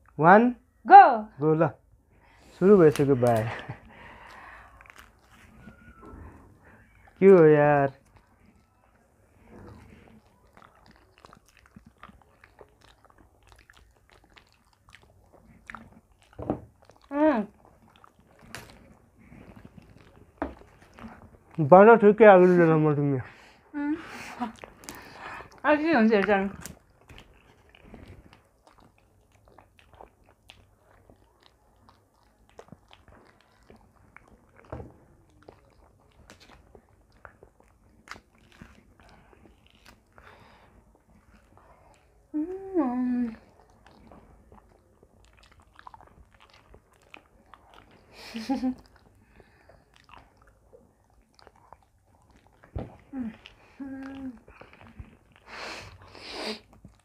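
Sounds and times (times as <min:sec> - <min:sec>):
people chewing food: 0:00.0 - 0:00.8, 0:01.4 - 0:57.0.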